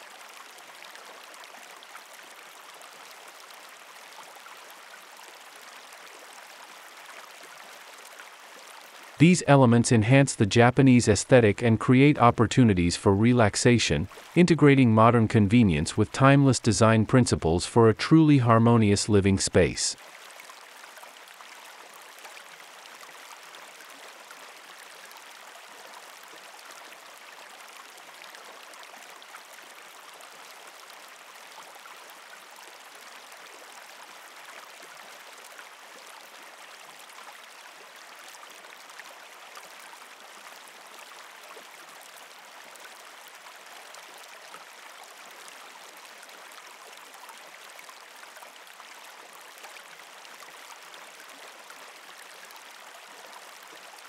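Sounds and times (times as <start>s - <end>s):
trickling water: 0.0s - 54.0s.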